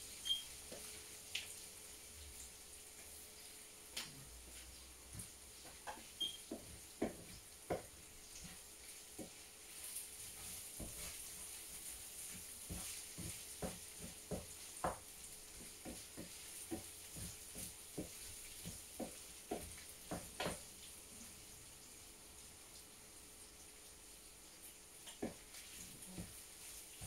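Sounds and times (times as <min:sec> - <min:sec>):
filling sizzling in a frying pan: 0:00.0 - 0:27.0.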